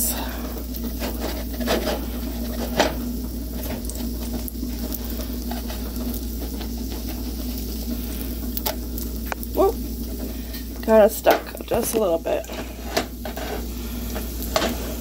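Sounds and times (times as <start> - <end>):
batter sizzling in a frying pan: 0.0 - 15.0
faint steady hum: 0.0 - 15.0.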